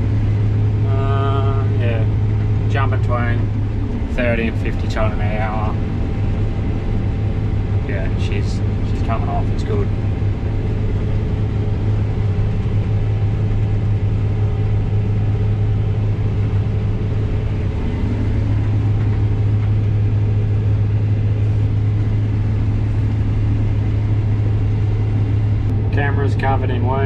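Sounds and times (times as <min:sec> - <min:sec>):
combine harvester droning: 0:00.0 - 0:27.0.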